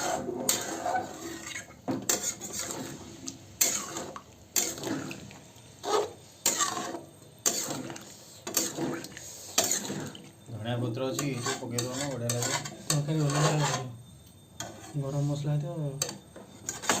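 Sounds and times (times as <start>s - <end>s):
spoon scraping curry in pan: 0.0s - 10.4s, 11.2s - 13.9s, 14.6s - 15.1s, 16.0s - 17.0s.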